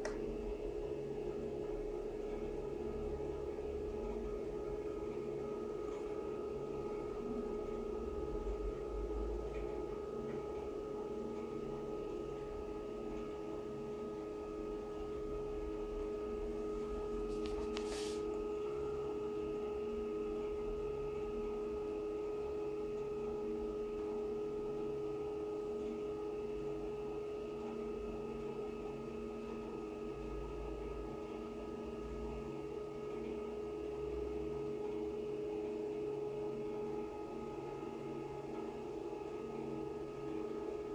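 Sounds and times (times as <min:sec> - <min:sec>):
scanner machine hum: 0:00.0 - 0:40.9.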